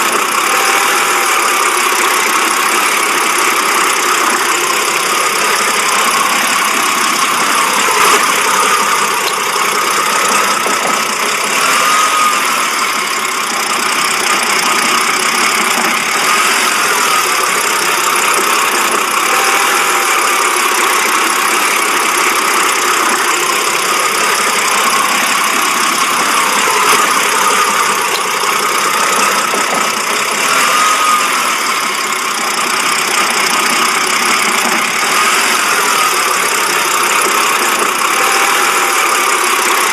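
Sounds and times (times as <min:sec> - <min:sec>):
car engine idling roughly: 0:00.0 - 0:39.9.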